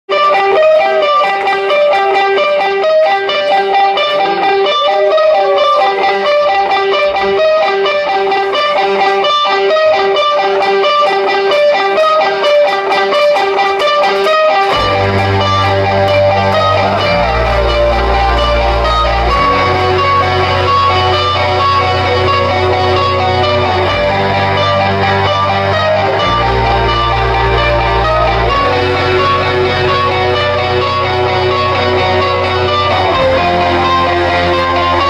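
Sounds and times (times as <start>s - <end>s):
electric guitar riff: 0.1s - 35.0s
rock band playing: 0.1s - 35.0s.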